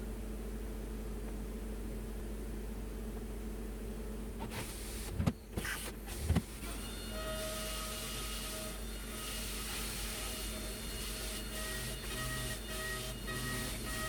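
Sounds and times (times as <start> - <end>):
machine steady whine: 0.0 - 14.0.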